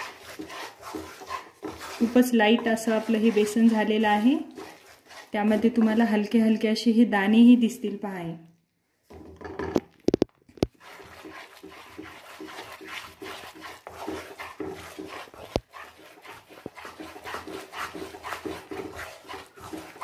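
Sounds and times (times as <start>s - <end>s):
wooden spatula scraping pan: 0.0s - 6.7s, 10.5s - 20.0s.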